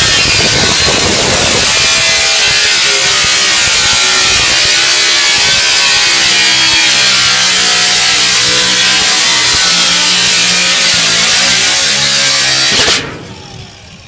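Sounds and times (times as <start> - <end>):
power tool cutting sheet metal: 0.0 - 13.9.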